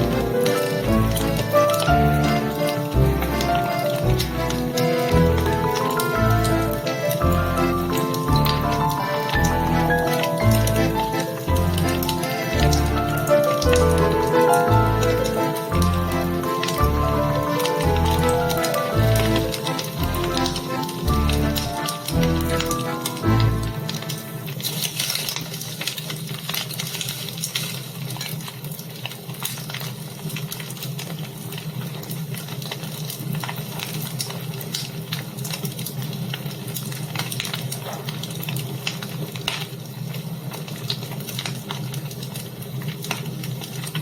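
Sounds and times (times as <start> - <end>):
fire crackling in a fireplace: 0.0 - 44.0.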